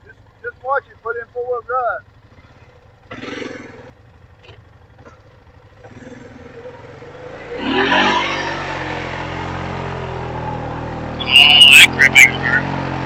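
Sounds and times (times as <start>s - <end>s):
atv engine idling and revving: 0.0s - 13.0s.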